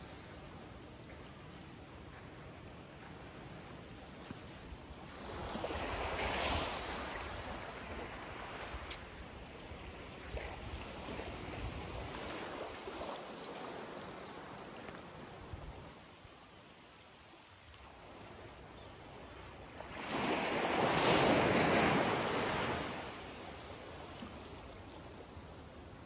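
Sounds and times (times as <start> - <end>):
small waves lapping on sand: 0.0 - 26.0.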